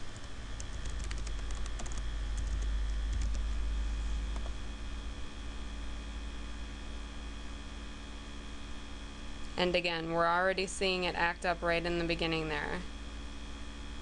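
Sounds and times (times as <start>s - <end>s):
cooling fans humming: 0.0s - 14.0s.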